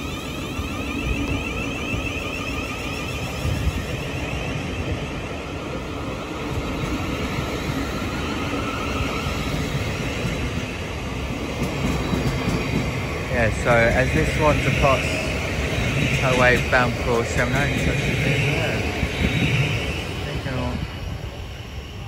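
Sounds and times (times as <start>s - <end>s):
electric train rumble: 0.0s - 22.0s.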